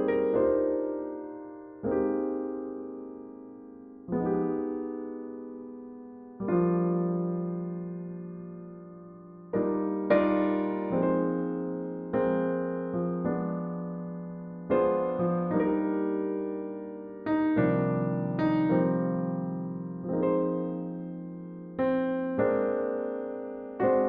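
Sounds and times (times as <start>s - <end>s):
soft jazz on electric piano: 0.0s - 24.0s.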